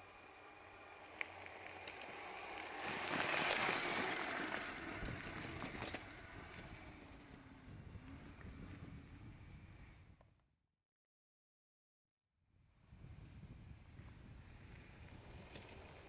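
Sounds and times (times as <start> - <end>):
electric dirt bike passing: 0.0 - 10.3, 12.8 - 16.0.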